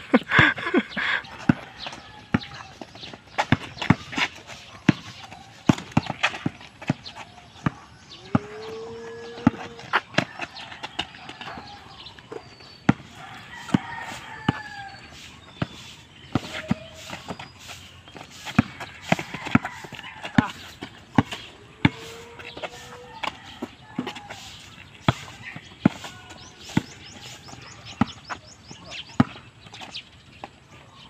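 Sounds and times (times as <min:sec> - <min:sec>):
basketball bouncing on concrete: 0:00.3 - 0:15.0, 0:15.6 - 0:17.5, 0:18.1 - 0:24.4, 0:25.0 - 0:30.5.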